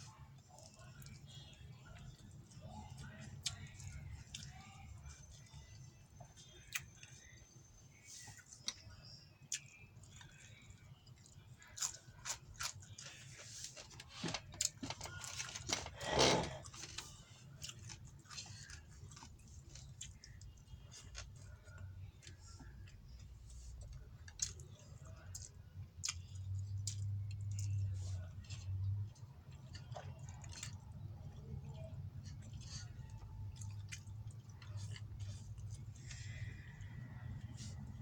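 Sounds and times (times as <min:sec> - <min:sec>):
low steady hum: 0:00.0 - 0:38.0
person chewing food: 0:00.0 - 0:38.0.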